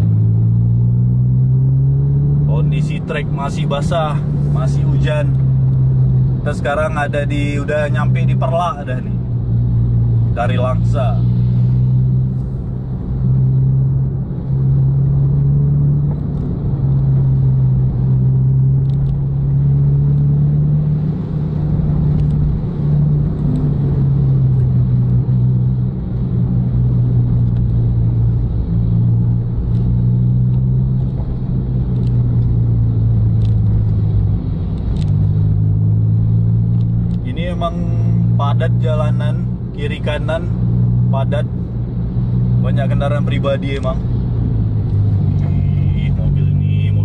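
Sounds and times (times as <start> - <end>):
car engine: 0.0 - 47.0
wet road noise: 1.4 - 47.0.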